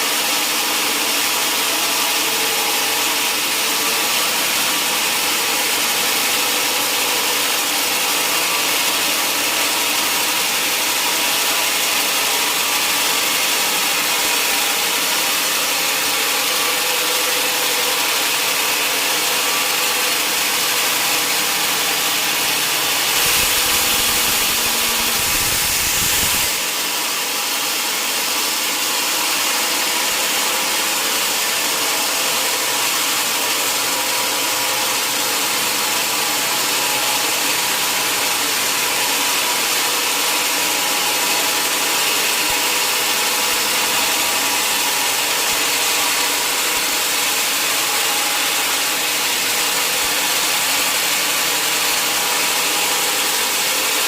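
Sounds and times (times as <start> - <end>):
sawmill saw hissing and humming: 0.0 - 54.0.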